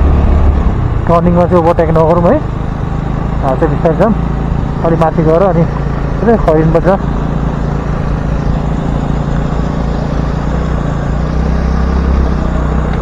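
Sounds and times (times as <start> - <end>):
road noise: 0.0 - 13.0
vehicle engine running: 0.0 - 13.0.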